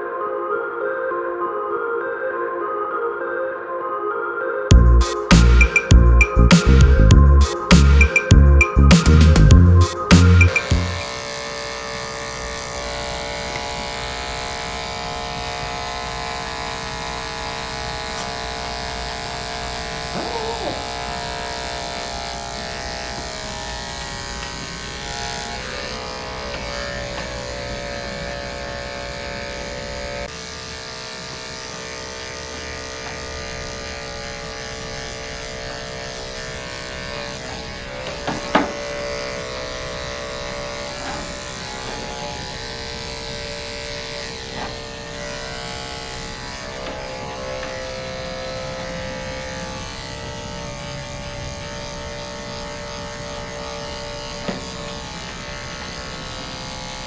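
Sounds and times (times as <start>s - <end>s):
electric clippers buzzing: 4.7s - 57.0s.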